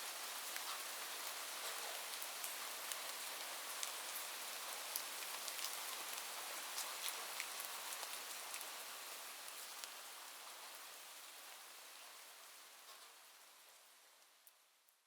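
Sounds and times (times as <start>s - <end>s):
light rain hiss: 0.0s - 15.0s.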